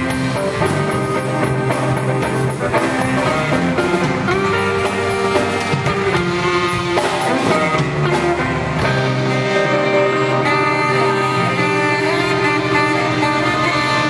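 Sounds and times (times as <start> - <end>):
live rock band music: 0.0 - 14.0
tenor saxophone long notes: 0.0 - 14.0.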